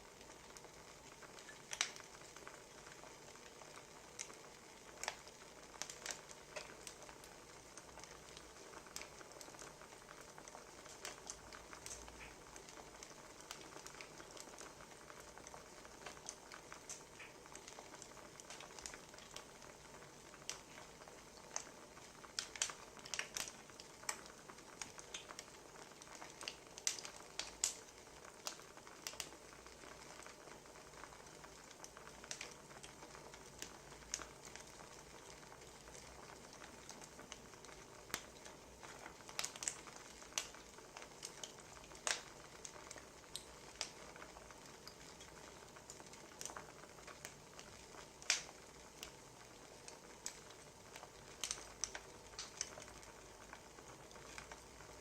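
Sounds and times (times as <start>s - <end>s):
faint steady hiss: 0.0s - 55.0s
wood fire crackling: 0.0s - 55.0s.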